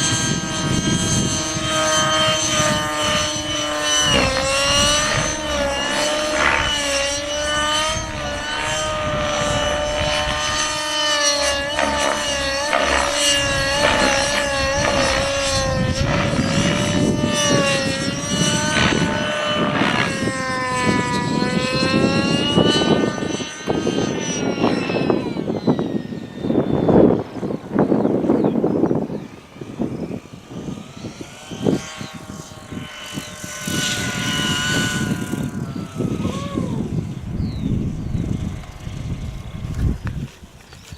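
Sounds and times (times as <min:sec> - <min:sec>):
model helicopter engine whine: 0:00.0 - 0:40.9
wind buffeting microphone: 0:00.0 - 0:40.9.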